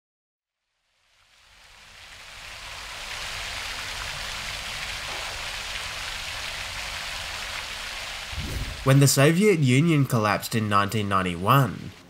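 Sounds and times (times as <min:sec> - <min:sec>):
fountain water splashing: 0:01.0 - 0:12.0.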